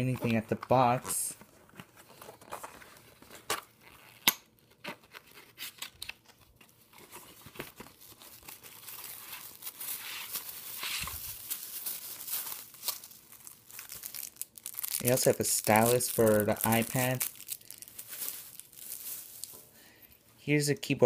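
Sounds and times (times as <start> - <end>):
plastic wrap crinkling: 0.0 - 19.9.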